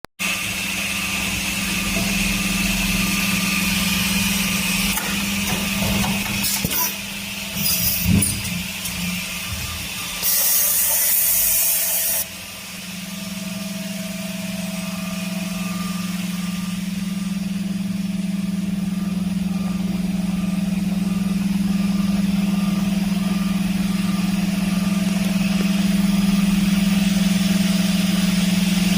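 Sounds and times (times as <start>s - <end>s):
machine hum: 0.2s - 28.9s.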